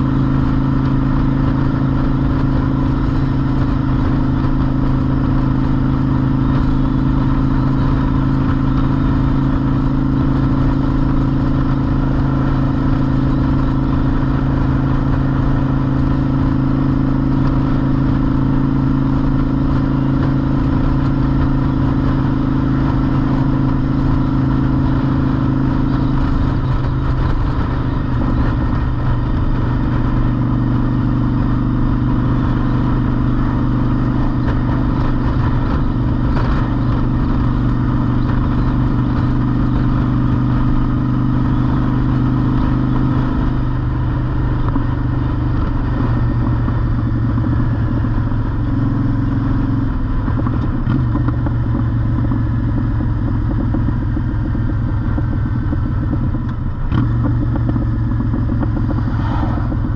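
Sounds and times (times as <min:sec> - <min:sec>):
motorcycle engine running: 0:00.0 - 0:59.9
wind rumble: 0:00.0 - 0:59.9.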